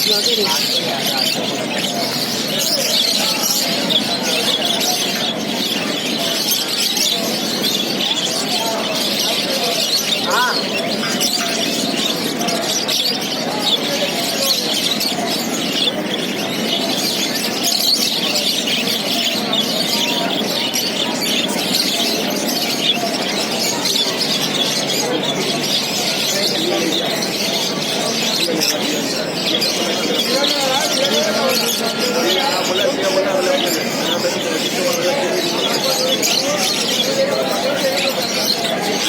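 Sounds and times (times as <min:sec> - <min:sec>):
flock of budgerigars chirping: 0:00.0 - 0:39.0.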